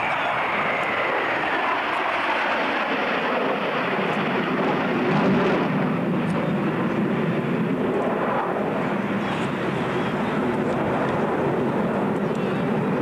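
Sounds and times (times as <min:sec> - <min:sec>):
jet fighters flying past: 0:00.0 - 0:13.0.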